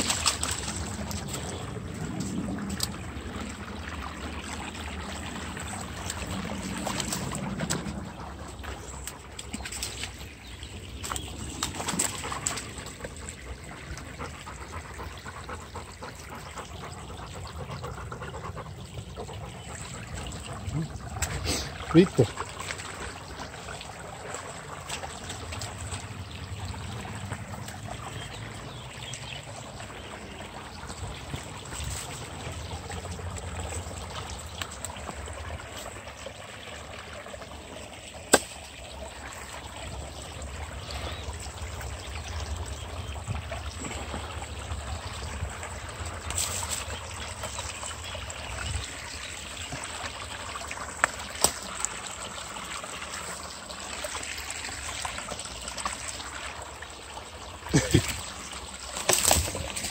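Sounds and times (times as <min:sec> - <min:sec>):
brook trickling over stones: 0:00.0 - 0:59.9.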